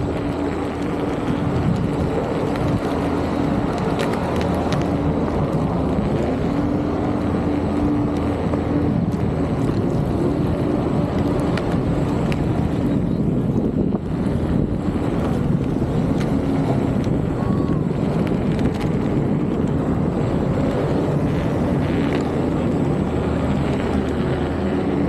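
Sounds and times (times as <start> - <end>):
tyre rolling rumble: 0.0 - 25.0
wind rushing over microphone: 0.0 - 25.0.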